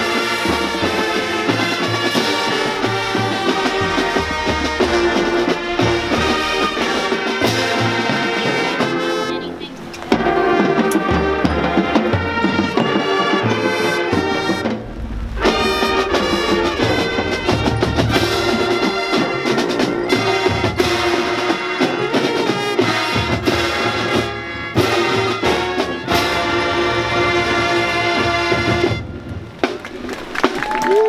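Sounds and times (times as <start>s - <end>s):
brass chords: 0.0s - 29.2s
drums: 0.0s - 31.0s.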